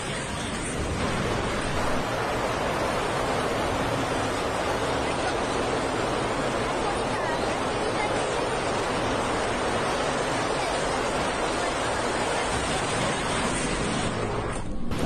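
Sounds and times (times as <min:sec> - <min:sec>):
roar of wind and water: 0:00.0 - 0:15.0.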